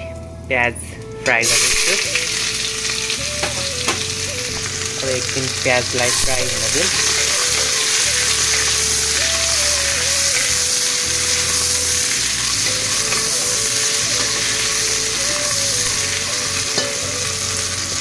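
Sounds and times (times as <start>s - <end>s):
onions sizzling in hot oil: 1.4s - 18.0s.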